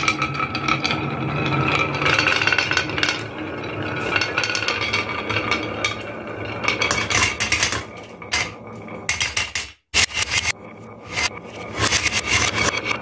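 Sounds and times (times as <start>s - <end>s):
marbles rolling on wooden track: 0.0s - 13.0s.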